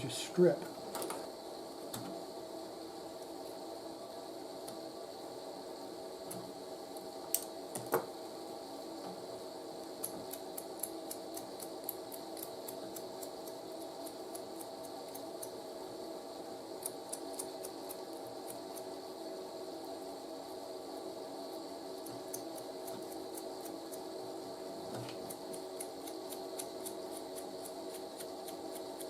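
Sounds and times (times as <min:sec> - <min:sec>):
background hum: 0:00.0 - 0:29.0.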